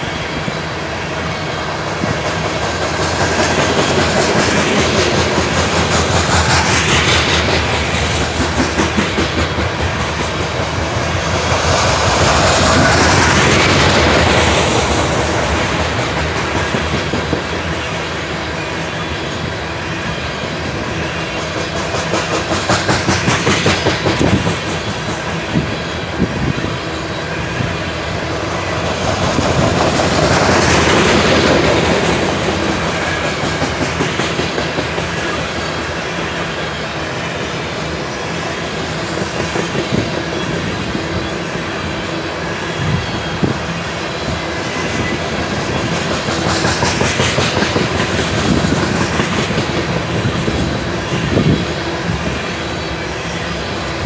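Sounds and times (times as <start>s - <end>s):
wheels clacking over rail joints: 0.0s - 19.4s, 20.9s - 27.0s, 27.8s - 41.7s, 43.0s - 52.8s
freight train rumbling past: 0.0s - 54.0s.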